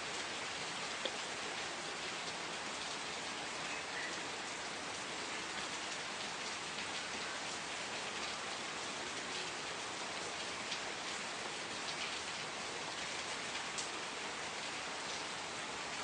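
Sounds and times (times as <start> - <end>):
raindrops pattering on a surface: 0.0 - 16.0
steady rainfall: 0.0 - 16.0.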